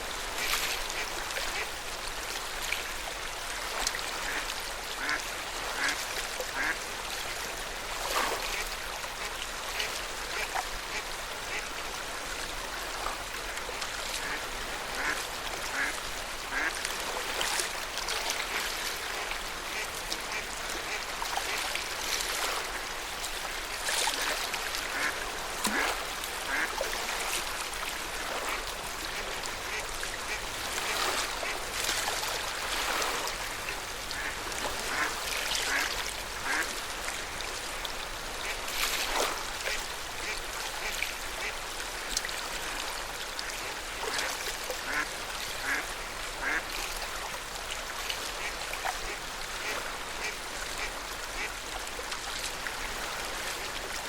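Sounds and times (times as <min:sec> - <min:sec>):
water lapping at shoreline: 0:00.0 - 0:54.0.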